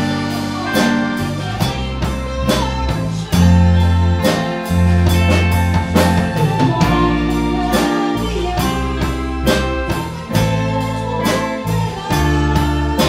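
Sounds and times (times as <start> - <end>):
drum kit beat: 0.0 - 13.0
electric bass: 0.0 - 13.0
electric guitars: 0.0 - 13.0.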